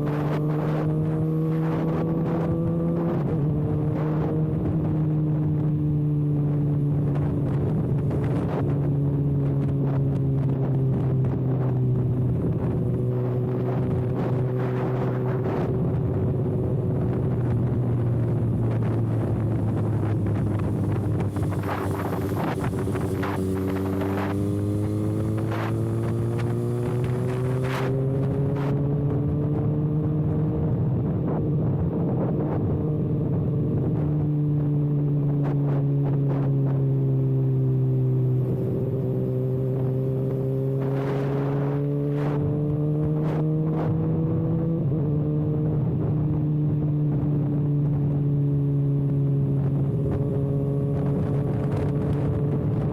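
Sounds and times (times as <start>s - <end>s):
motorcycle engine at steady revs: 0.0s - 52.9s
wind noise on microphone: 0.0s - 52.9s.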